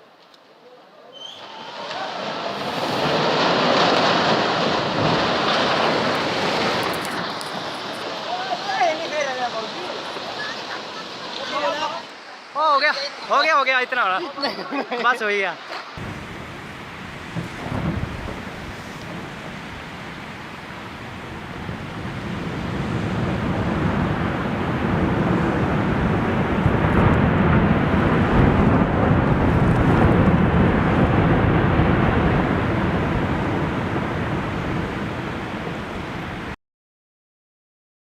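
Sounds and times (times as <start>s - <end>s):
avalanche rumbling: 1.3s - 12.3s, 16.0s - 36.6s.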